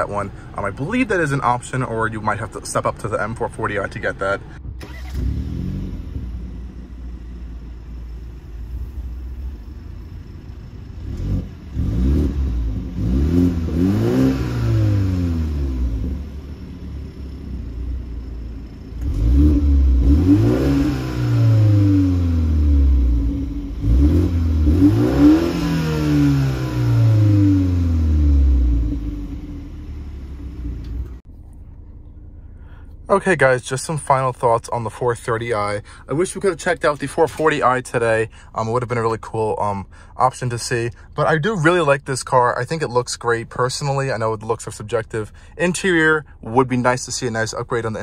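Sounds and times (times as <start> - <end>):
car engine idling and revving: 0.0 - 48.0.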